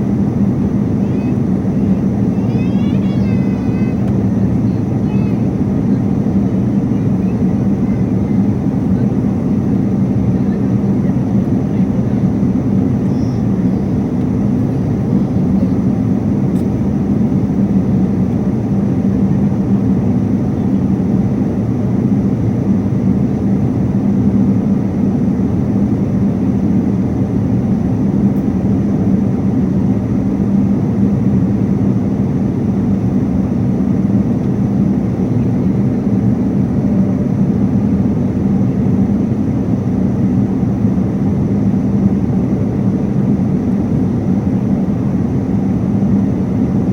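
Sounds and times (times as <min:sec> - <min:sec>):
airliner cabin engine rush: 0:00.0 - 0:46.9
steady low hum: 0:00.0 - 0:46.9.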